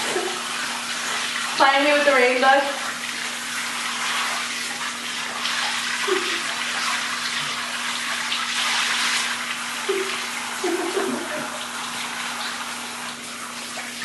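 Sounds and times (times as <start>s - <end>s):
water spraying: 0.0s - 14.0s.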